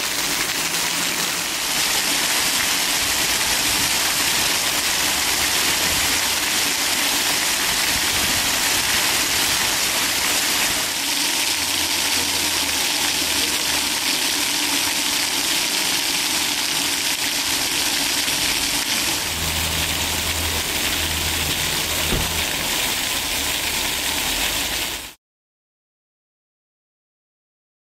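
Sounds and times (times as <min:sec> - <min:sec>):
fountain water splashing: 0:00.0 - 0:25.2.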